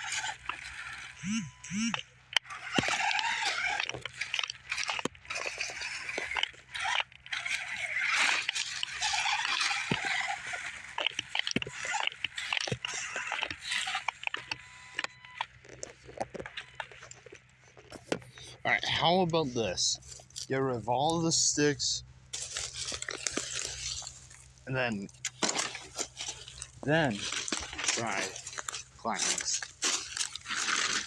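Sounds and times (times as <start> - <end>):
small electric motor whining: 0.0 - 21.2, 22.0 - 31.0
tyres scrabbling on stone: 0.0 - 31.0.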